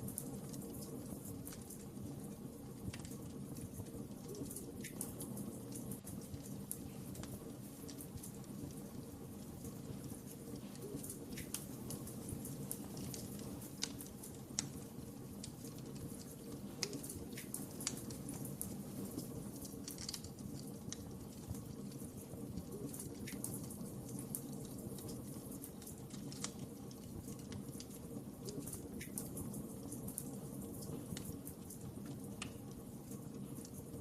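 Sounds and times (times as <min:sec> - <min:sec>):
fireplace fire crackling: 0:00.0 - 0:34.0.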